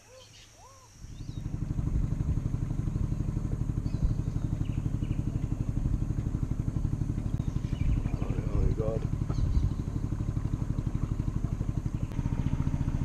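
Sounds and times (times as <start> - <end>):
small boat motor putter: 1.2 - 13.0.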